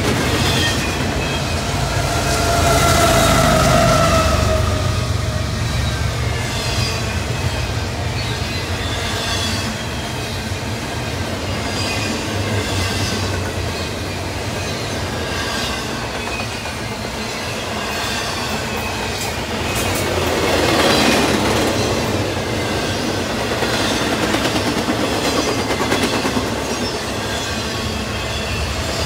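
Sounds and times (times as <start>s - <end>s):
freight train wheels clattering: 0.0s - 29.0s.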